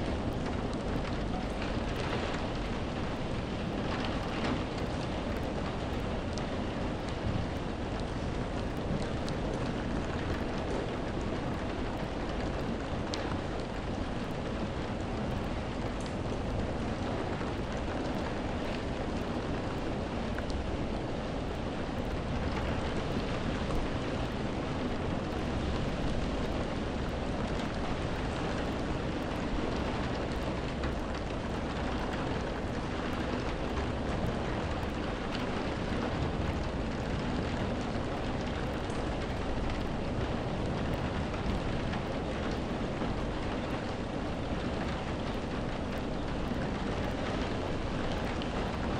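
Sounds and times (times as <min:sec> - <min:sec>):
steady rain hiss: 0:00.0 - 0:48.9
ticks of raindrops: 0:00.0 - 0:48.9.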